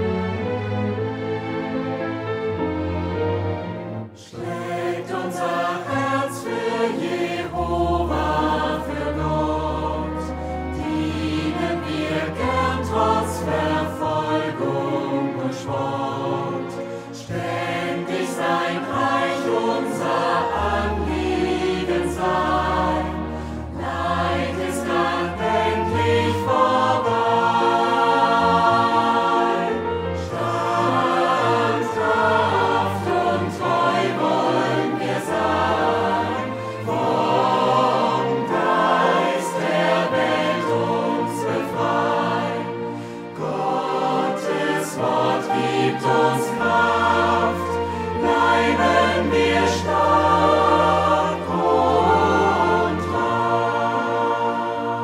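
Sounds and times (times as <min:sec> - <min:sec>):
choir singing held chords: 0:00.0 - 0:55.0.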